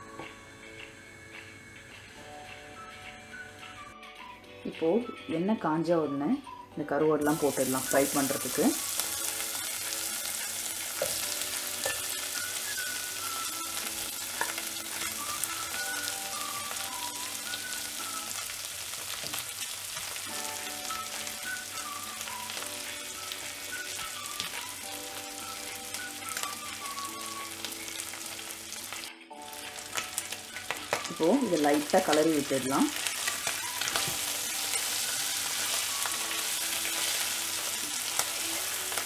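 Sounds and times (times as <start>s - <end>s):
fish sizzling in hot oil: 7.3s - 39.0s.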